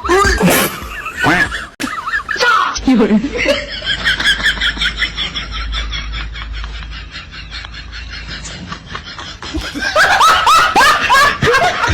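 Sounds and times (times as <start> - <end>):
person laughing: 0.2 - 11.9.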